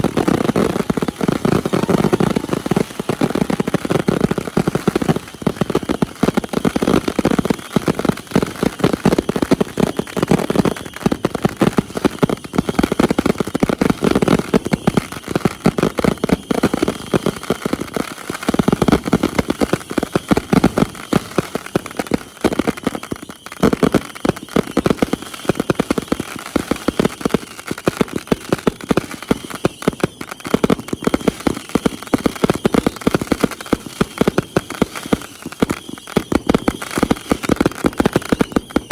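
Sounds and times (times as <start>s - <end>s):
fireworks cracking and banging: 0.0s - 38.9s.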